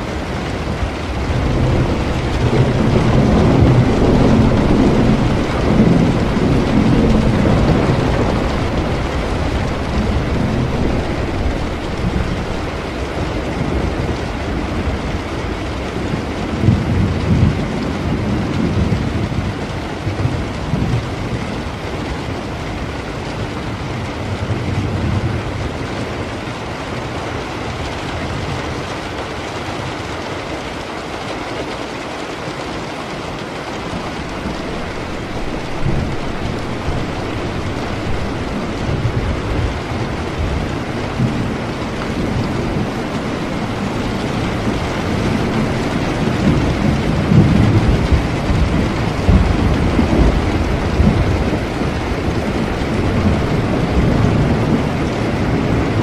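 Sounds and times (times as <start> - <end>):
distant thunder rumbling: 0.0 - 26.6, 33.4 - 56.0
steady rain: 0.0 - 56.0.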